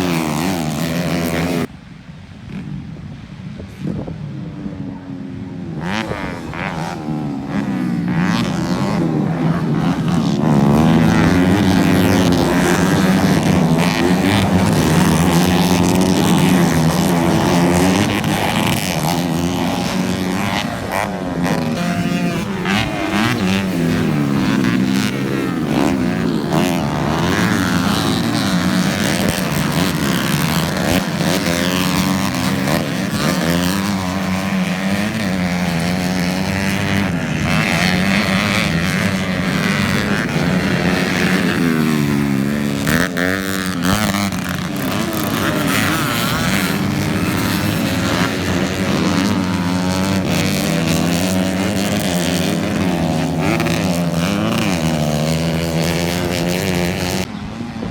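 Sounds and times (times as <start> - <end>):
motocross bike engines revving: 0.0 - 1.7, 3.6 - 57.9.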